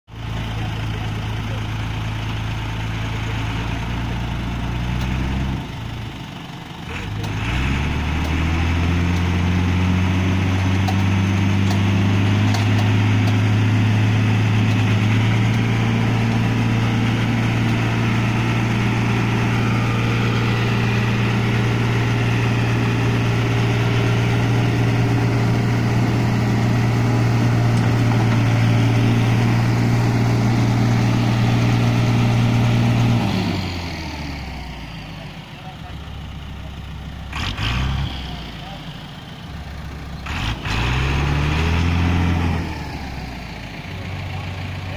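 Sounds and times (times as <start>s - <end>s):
tractor diesel engine revving: 0.1s - 44.9s.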